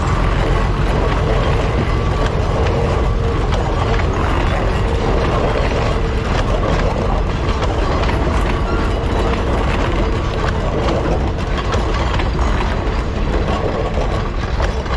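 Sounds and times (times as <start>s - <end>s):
rail clicks: 0.0s - 14.9s
train rumble on rails: 0.0s - 14.9s.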